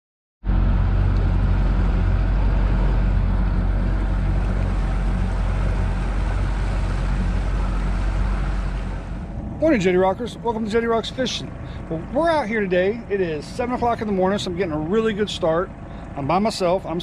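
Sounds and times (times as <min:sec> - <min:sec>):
motorboat engine humming: 0:00.4 - 0:17.0
water rushing past hull: 0:00.4 - 0:17.0
wind: 0:00.4 - 0:17.0.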